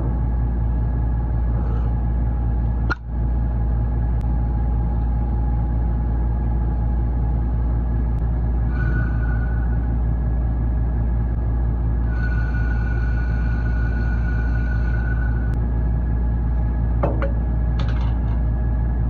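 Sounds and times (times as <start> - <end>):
faint whining tones: 0.0 - 19.0
low machinery drone: 0.0 - 19.0.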